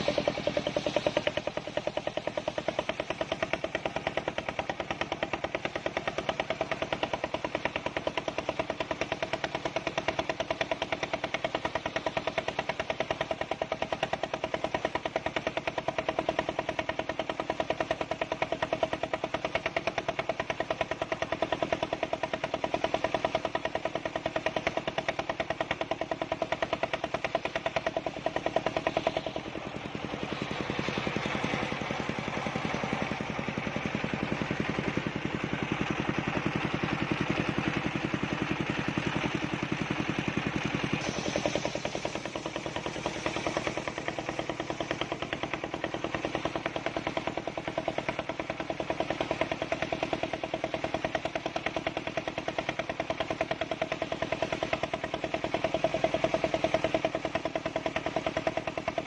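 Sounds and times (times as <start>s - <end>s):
engine-driven circular saw running: 0.0s - 59.0s
hiss: 0.0s - 59.0s.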